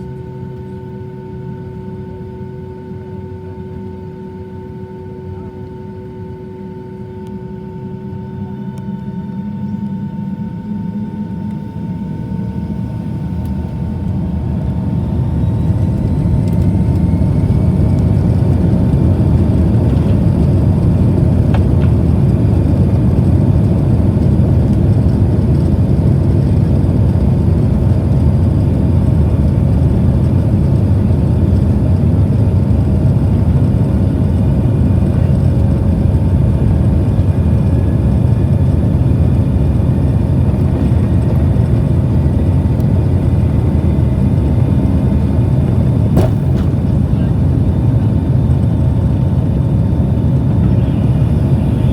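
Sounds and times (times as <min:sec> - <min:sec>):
airplane engines throttling up: 0:00.0 - 0:51.9.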